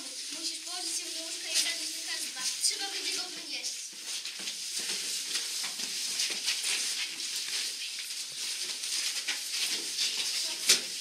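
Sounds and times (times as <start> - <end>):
children rustling and shuffling: 0.0 - 11.0
feet scuffing on floor: 0.3 - 11.0.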